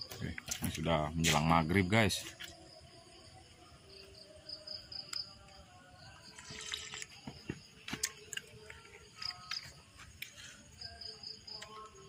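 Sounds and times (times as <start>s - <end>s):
faint insect chirping: 0.0s - 12.0s.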